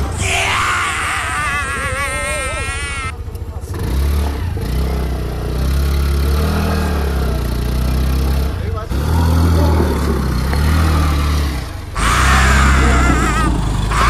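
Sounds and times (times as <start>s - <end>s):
scooter engine revving hard: 0.8s - 14.0s.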